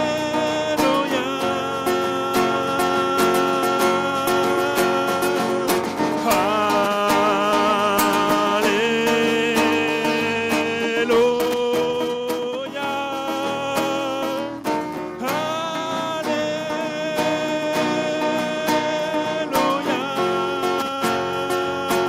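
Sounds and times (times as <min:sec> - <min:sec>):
worship band playing slow song: 0:00.0 - 0:22.0.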